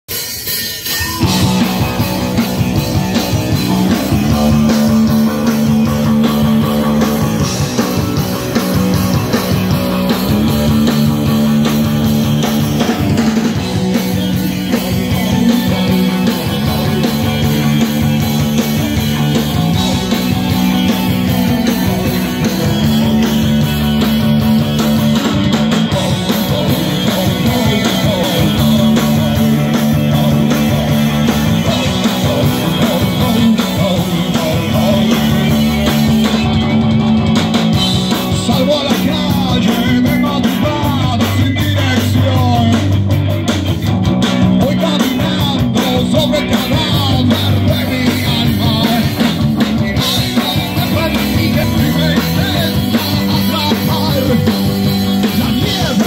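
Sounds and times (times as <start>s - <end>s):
live rock band playing: 0.1s - 56.0s.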